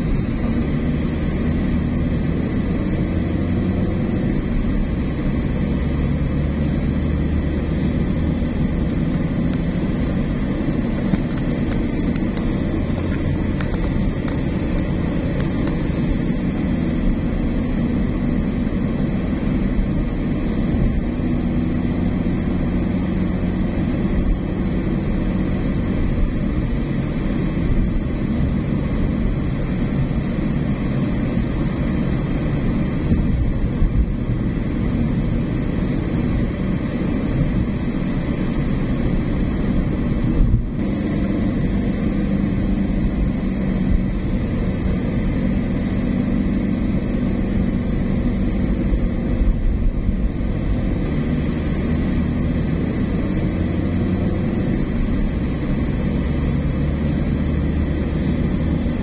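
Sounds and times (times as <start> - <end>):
car engine and tyres on road: 0.0 - 59.0.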